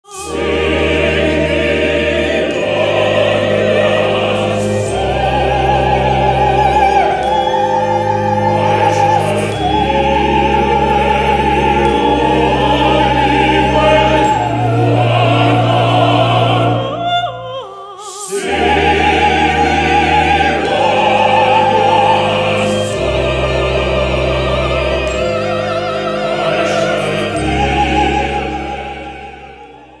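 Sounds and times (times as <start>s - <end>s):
operatic singing: 0.0s - 30.0s
sustained accompaniment: 0.0s - 30.0s.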